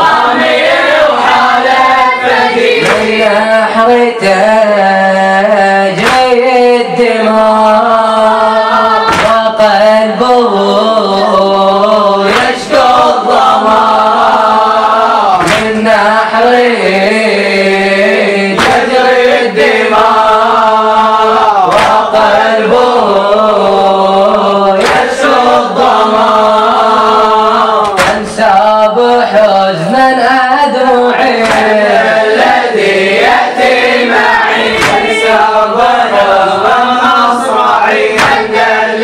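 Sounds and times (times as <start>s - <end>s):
men chanting a lament in unison: 0.0s - 39.0s.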